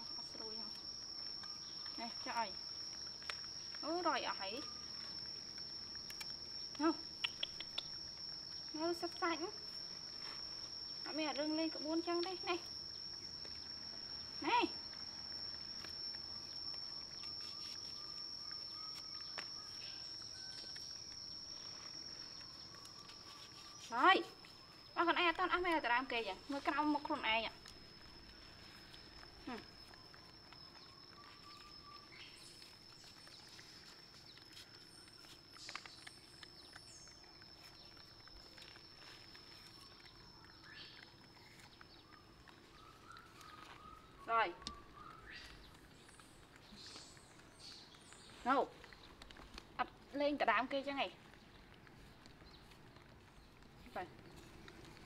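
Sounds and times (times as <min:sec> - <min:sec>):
high-pitched insect drone: 0:00.0 - 0:48.6
faint clicks and rustles: 0:00.0 - 0:55.0
monkeys chewing apple crunches: 0:00.0 - 0:55.0.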